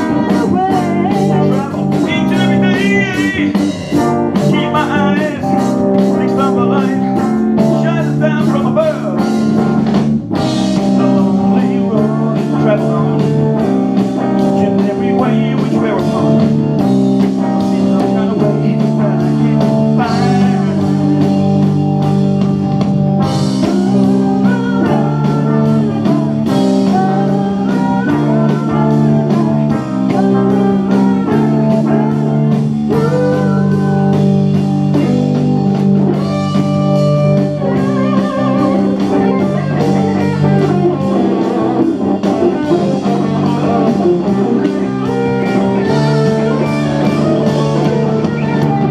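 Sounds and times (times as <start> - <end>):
blues-rock band playing: 0.0 - 48.9
drum kit: 0.0 - 48.9
electric guitar lead: 0.0 - 48.9.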